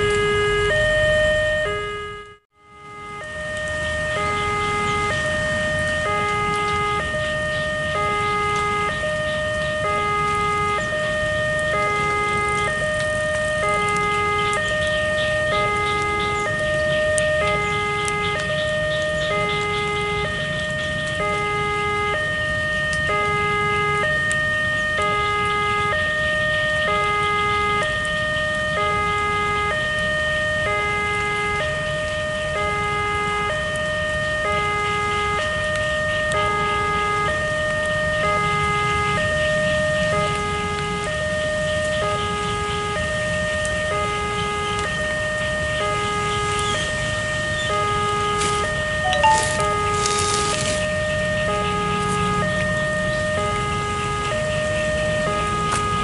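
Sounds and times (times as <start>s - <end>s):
level crossing two-tone alarm: 0.0s - 56.0s.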